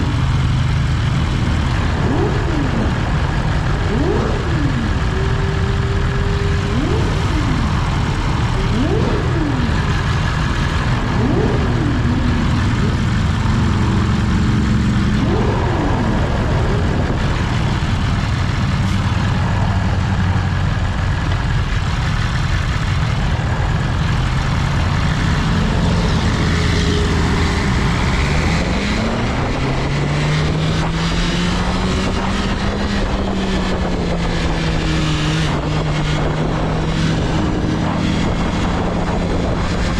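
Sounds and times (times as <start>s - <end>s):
motorcycle engine revving through gears: 0.0s - 39.9s
wind and road noise: 0.0s - 39.9s.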